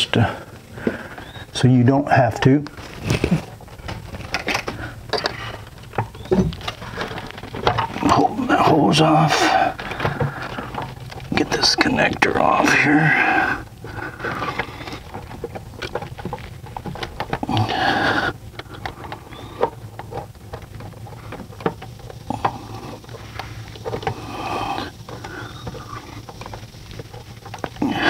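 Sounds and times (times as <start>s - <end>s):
rustling: 0.0s - 28.0s
plastic scraping: 2.2s - 28.0s.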